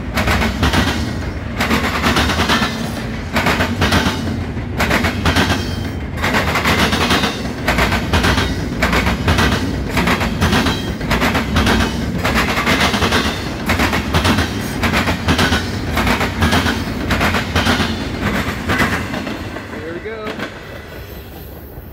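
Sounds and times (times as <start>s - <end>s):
train low rumble: 0.0s - 21.9s
train wheels clacking on track: 0.0s - 21.9s.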